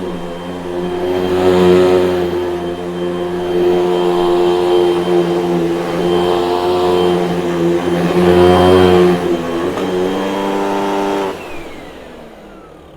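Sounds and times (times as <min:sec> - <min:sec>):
vacuum cleaner motor whine: 0:00.0 - 0:12.9.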